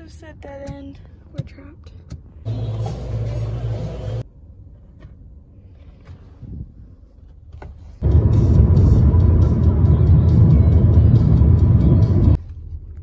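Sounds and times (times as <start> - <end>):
road and engine rumble in car: 0.3 - 13.0.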